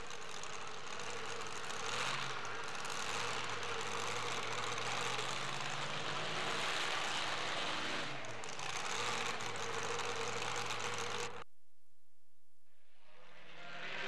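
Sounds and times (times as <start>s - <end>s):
truck engine idling: 0.0s - 11.4s.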